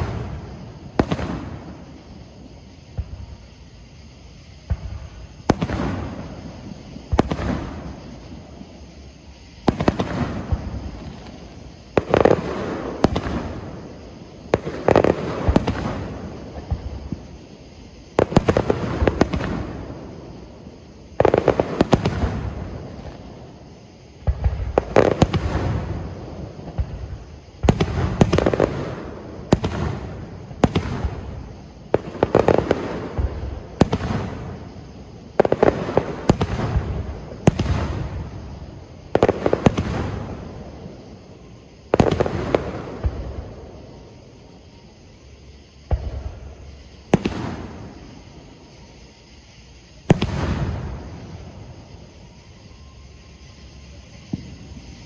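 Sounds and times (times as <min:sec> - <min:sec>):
fireworks booming: 0:00.0 - 0:45.0, 0:45.6 - 0:52.4, 0:54.0 - 0:55.0.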